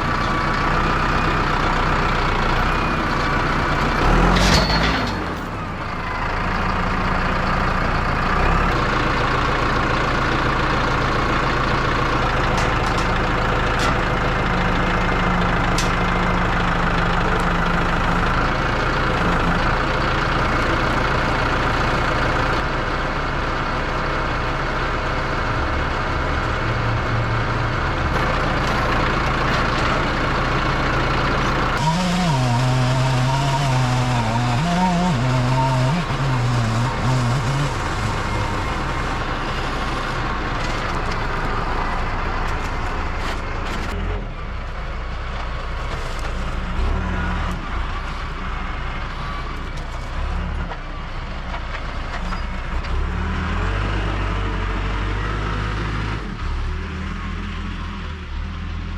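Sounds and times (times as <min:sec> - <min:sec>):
tractor engine running under load: 0:00.0 - 0:58.9.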